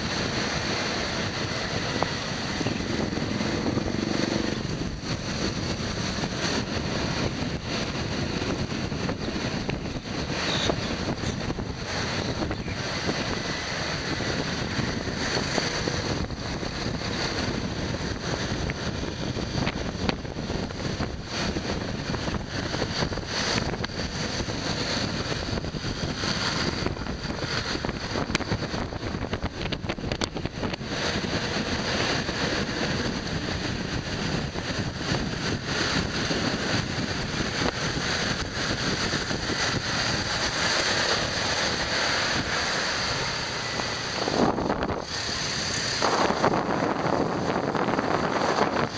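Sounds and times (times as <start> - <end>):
road traffic: 0.0 - 48.9
scooter engine: 0.0 - 48.9
wind buffeting microphone: 0.0 - 48.9.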